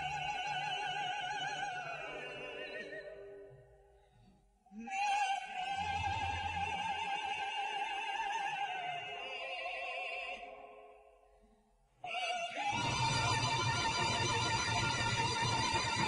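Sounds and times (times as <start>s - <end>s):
opera duet singing: 0.0s - 3.5s, 4.7s - 11.2s, 12.0s - 16.0s.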